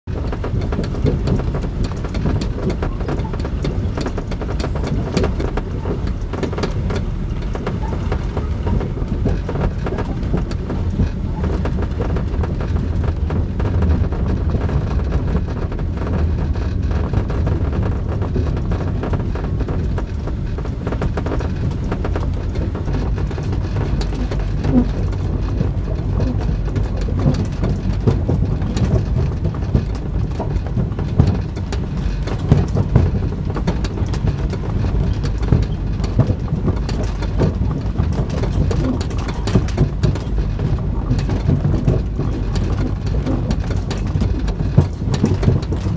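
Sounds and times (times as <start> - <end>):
train carriage rumbling: 0.0 - 45.9
pounding and clattering knocks: 0.1 - 45.9.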